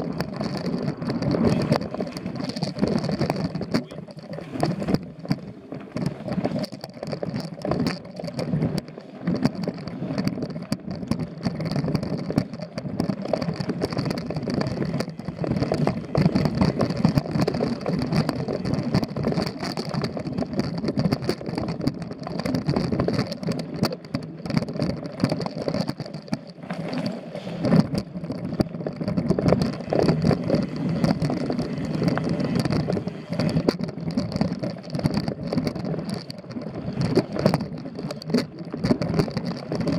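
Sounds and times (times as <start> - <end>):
bike rattling over roots: 0.0 - 39.9
bike tyre rolling on dirt: 0.0 - 39.9.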